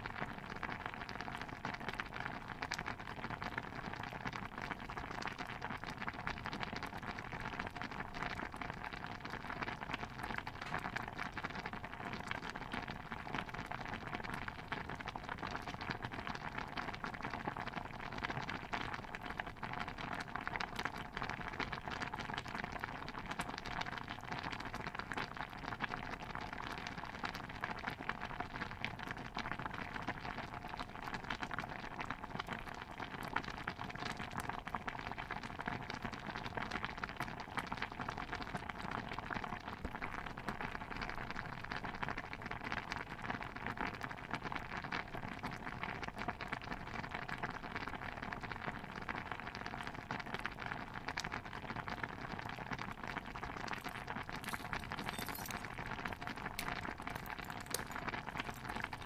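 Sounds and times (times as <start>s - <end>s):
stew bubbling in a pot: 0.0s - 59.0s.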